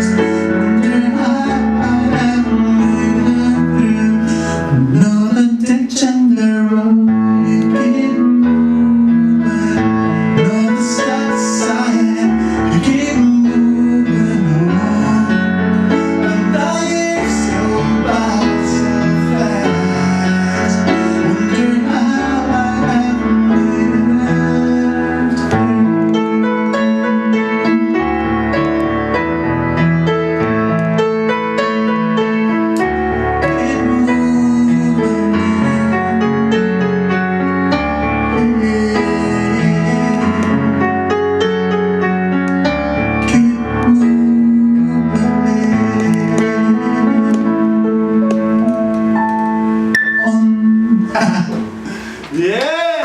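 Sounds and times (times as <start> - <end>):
keyboard-led pop music: 0.0 - 53.0.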